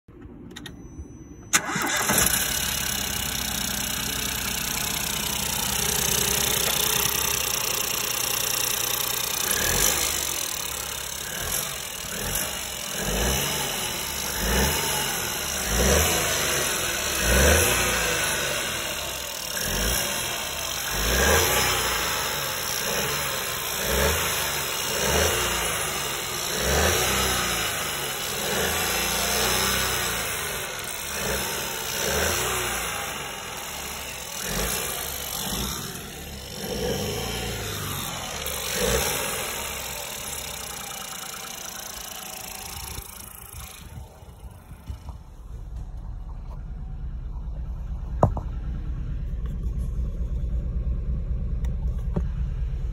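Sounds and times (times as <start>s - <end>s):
car engine idling: 0.1s - 52.9s
engine revving in throttle blips: 1.5s - 52.9s.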